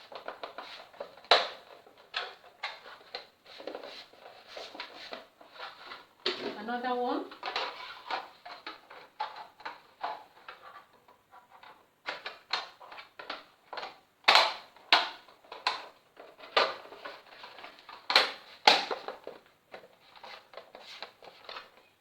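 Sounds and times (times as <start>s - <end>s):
plastic parts clicking and clattering: 0.0s - 6.6s, 7.3s - 21.9s.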